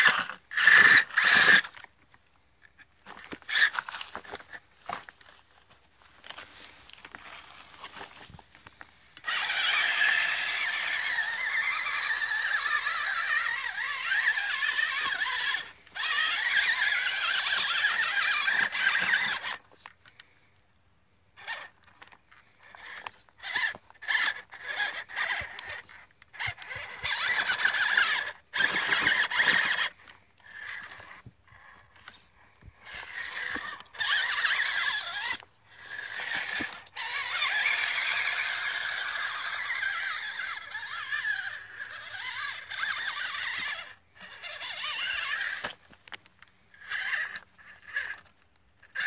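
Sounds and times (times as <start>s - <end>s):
electric motor and gearbox whining: 0.0s - 20.6s, 21.2s - 49.0s.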